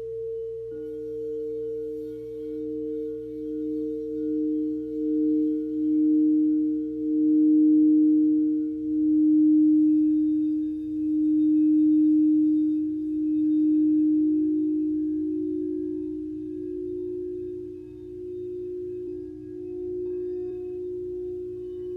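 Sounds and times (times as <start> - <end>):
singing bowl ringing: 0.0 - 21.9.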